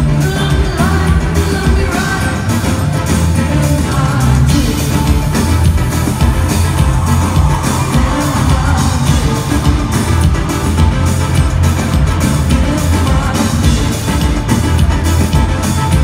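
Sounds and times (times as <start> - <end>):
live pop band playing: 0.0 - 16.0.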